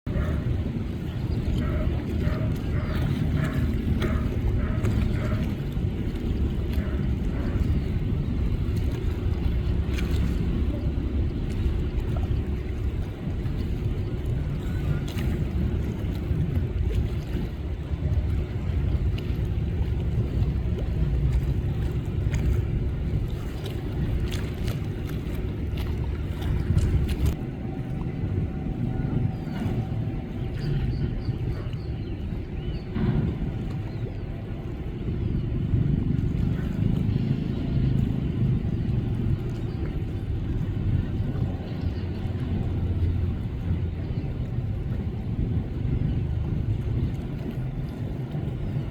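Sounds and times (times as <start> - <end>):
water and wind noise: 0.0 - 48.9
boat engines droning: 0.1 - 48.9.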